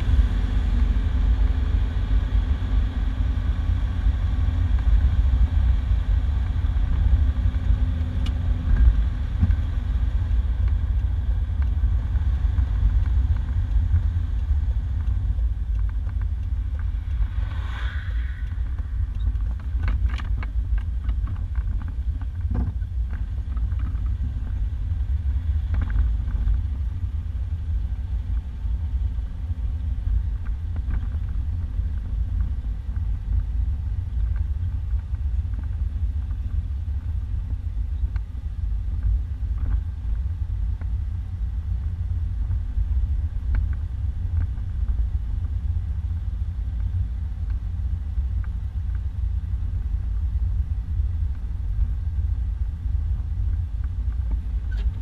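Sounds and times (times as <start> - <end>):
engine and road noise rumble: 0.0 - 55.0.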